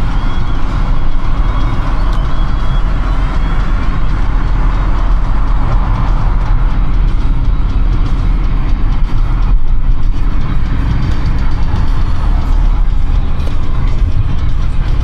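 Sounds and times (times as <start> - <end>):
road and traffic rumble: 0.0 - 15.0.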